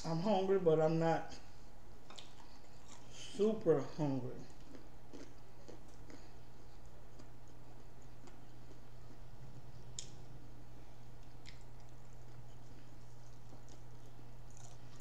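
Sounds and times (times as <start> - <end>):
steady low hum: 0.0 - 15.0
soft eating clicks and smacks: 2.0 - 3.4, 4.4 - 15.0.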